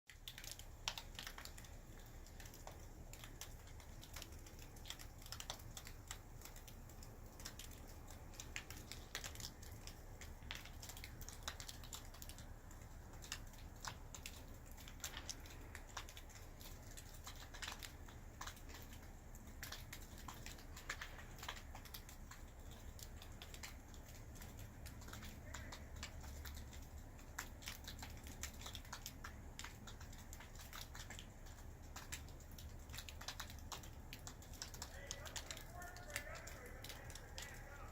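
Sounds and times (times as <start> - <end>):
snow ticking against a surface: 0.1 - 37.9.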